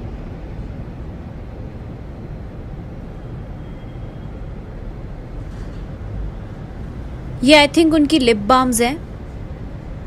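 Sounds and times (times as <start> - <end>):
room noise rumble and hiss: 0.0 - 10.0.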